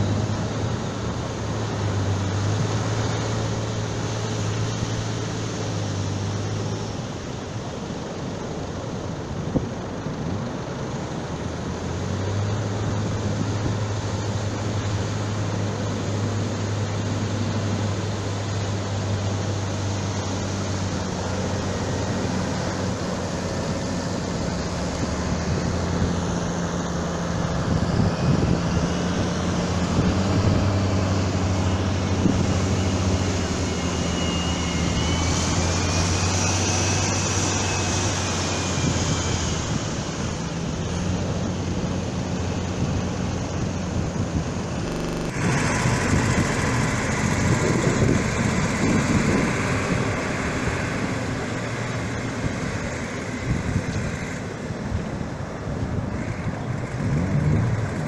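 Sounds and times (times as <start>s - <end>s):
motorboat engine drone: 0.0s - 58.0s
water: 0.0s - 58.0s
wind: 0.0s - 58.0s.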